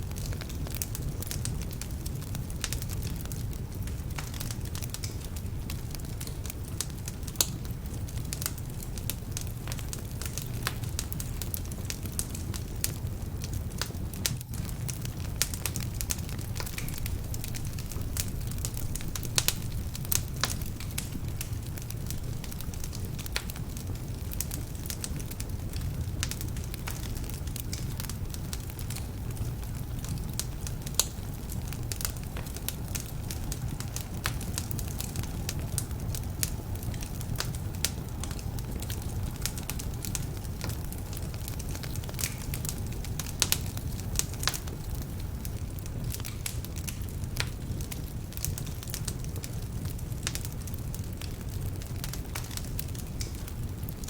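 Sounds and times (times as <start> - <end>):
fire low rumble: 0.0 - 54.0
wood fire crackling and popping: 0.0 - 54.0.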